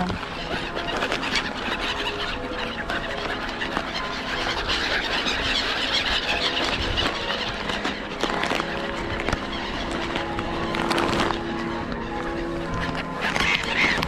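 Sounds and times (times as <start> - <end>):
gulls calling: 0.0 - 14.0.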